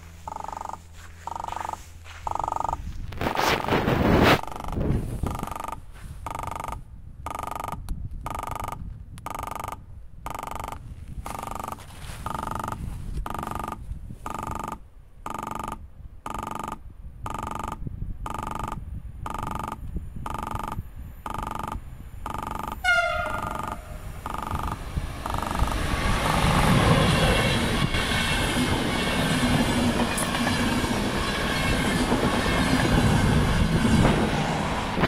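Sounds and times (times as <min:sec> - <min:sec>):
level crossing warning bell: 0:00.0 - 0:03.0, 0:04.5 - 0:34.0.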